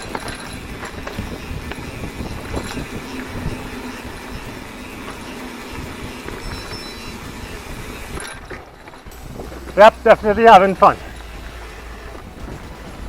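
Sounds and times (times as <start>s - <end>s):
bike clicks and rattles: 0.0s - 13.0s
bike tyres rumbling on dirt: 0.0s - 13.0s.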